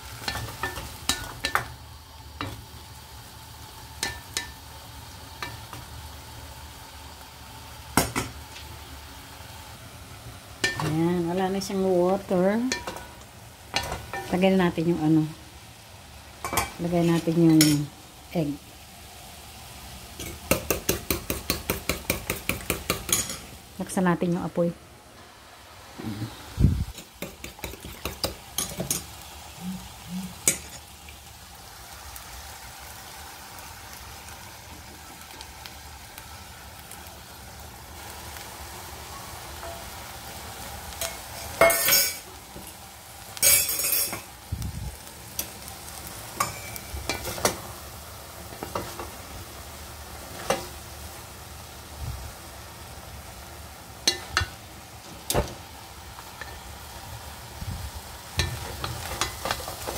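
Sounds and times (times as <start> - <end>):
egg sizzling in pan: 0.0 - 59.9.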